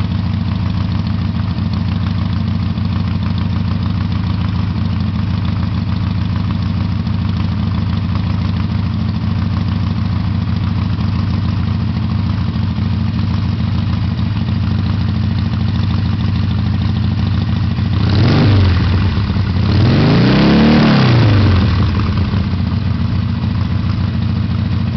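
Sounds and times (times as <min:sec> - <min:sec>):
motorcycle engine idling: 0:00.0 - 0:24.9
motorcycle engine revving: 0:00.0 - 0:24.9.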